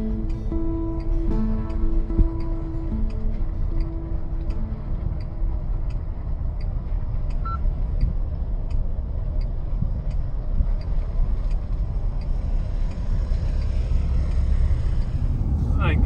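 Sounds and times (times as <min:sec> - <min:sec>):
faint regular ticking: 0:00.0 - 0:16.0
road and engine rumble: 0:00.0 - 0:16.0.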